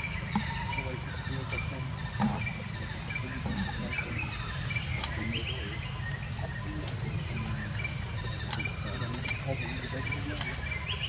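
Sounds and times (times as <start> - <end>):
bird chirps: 0.0 - 11.0
high insect tone: 0.0 - 11.0.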